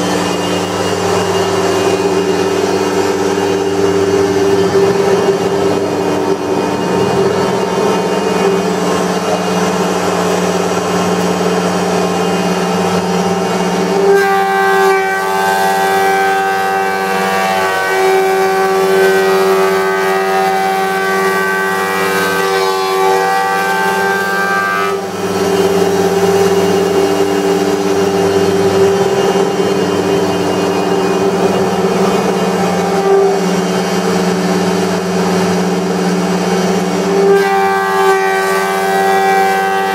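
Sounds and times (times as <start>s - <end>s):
higher dense whine: 0.0s - 18.9s, 21.4s - 39.1s
planer machine hum: 0.0s - 39.9s.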